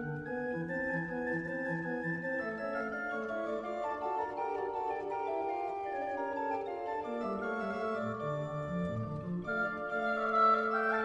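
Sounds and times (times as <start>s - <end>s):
chamber organ playing: 0.0s - 11.0s.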